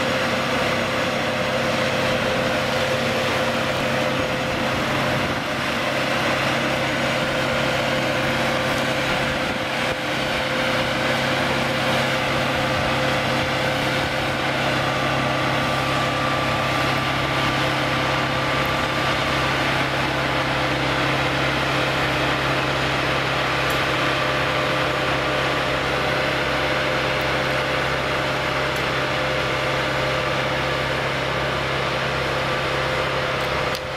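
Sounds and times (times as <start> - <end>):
diesel engine droning: 0.0 - 33.9.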